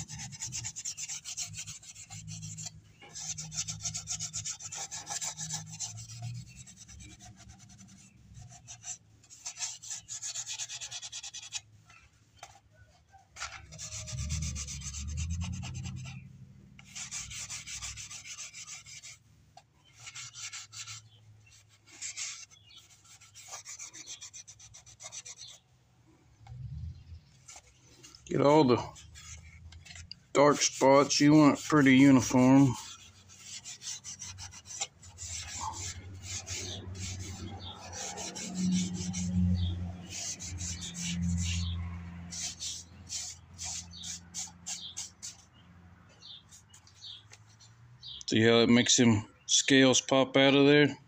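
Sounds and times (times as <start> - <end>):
pad scrubbing carved surface: 0.0 - 12.6, 13.4 - 25.6, 27.2 - 45.6.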